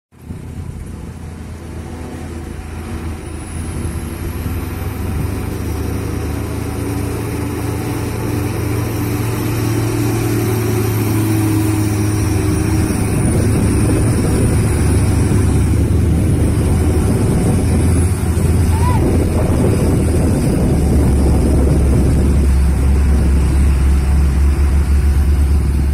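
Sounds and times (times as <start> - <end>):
heavy truck engines rumbling: 0.1 - 25.9.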